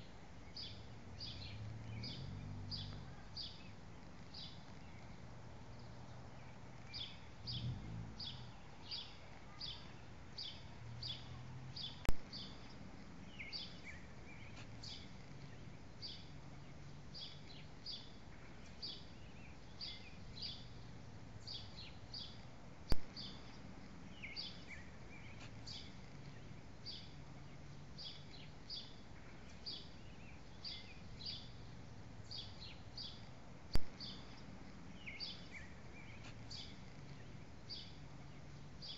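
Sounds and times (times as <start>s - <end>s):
faint low rumble: 0.0s - 38.9s
small birds chirping: 0.0s - 38.9s.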